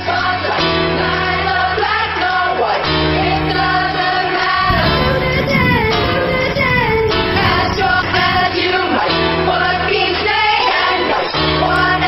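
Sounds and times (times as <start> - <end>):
song with singing over bass: 0.0 - 12.0.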